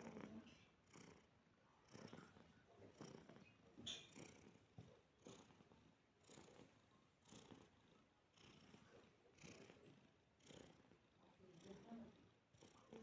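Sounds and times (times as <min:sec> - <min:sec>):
cat purring faintly: 0:00.0 - 0:13.0.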